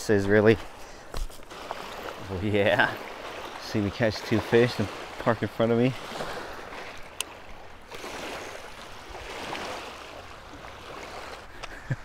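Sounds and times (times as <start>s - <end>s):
waves lapping on rocky shore: 0.1s - 12.0s.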